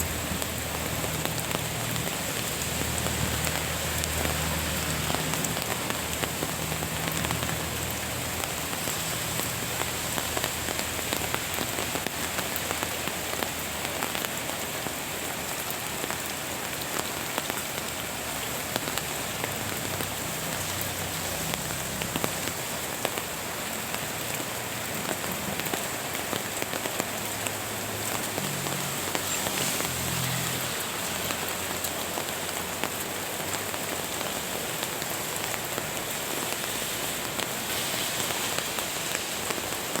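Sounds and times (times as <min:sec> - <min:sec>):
rain falling on plants: 0:00.0 - 0:40.0
raindrops ticking: 0:00.0 - 0:40.0.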